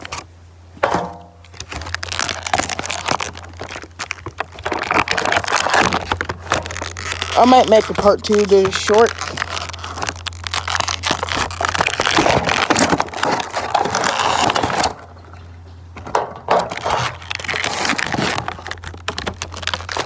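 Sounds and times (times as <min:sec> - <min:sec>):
packaging crinkling: 0:00.8 - 0:20.0.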